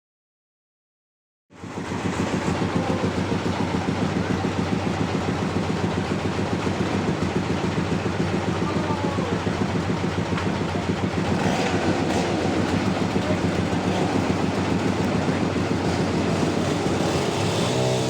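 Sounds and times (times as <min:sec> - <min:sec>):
sawmill engine running: 0:01.6 - 0:18.0.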